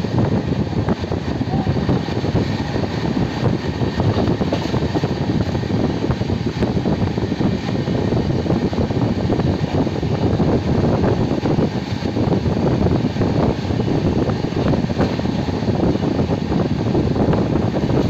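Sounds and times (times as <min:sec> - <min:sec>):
train wheels rumbling on rail: 0:00.0 - 0:18.0
wind rushing past microphone: 0:00.0 - 0:18.0.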